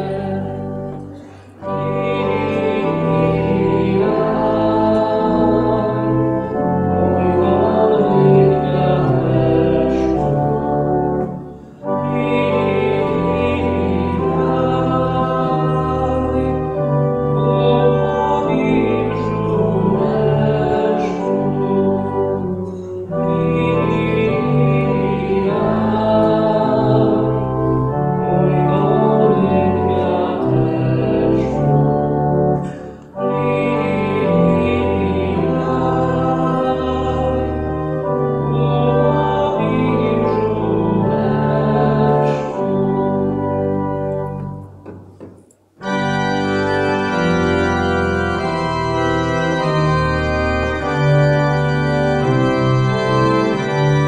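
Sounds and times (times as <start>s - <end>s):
church organ playing a carol: 0.0s - 45.0s, 45.8s - 54.0s.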